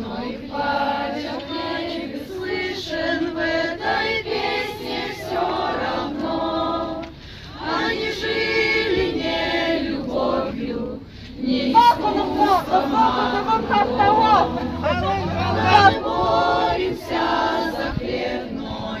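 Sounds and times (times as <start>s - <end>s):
group of voices singing in chorus: 0.0s - 19.0s.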